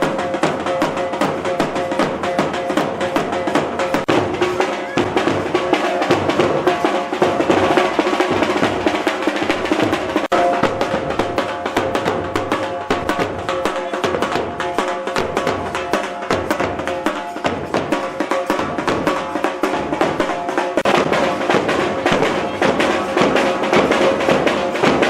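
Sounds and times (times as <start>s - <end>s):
rapid dense drumming: 0.0s - 25.0s.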